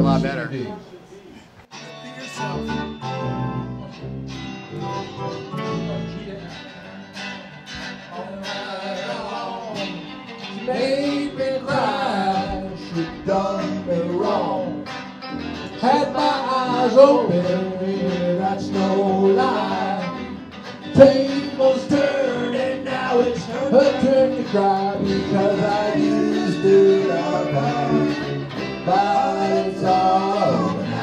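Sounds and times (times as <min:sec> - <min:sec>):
man singing: 0:01.7 - 0:15.0, 0:15.7 - 0:31.0
electric guitar band playing: 0:01.7 - 0:31.0.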